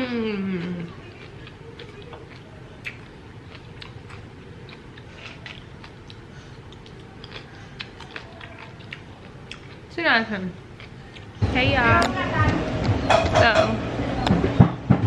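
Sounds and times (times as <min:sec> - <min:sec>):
chewing food: 0:00.3 - 0:13.6.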